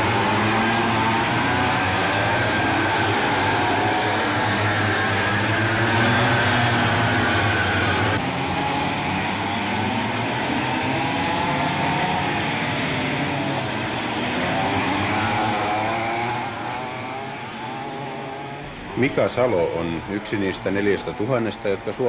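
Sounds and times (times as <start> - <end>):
kart engines buzzing: 0.0 - 22.0.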